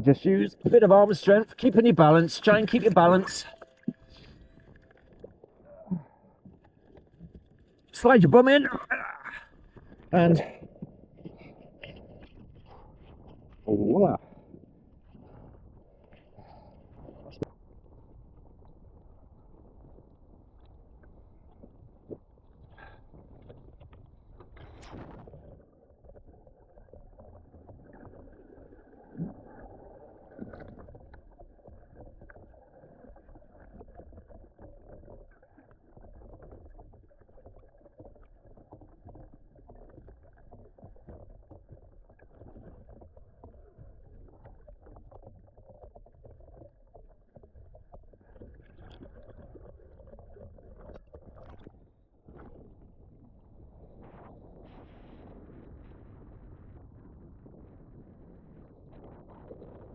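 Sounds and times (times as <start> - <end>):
water lapping against kayak hull: 0.2 - 55.3.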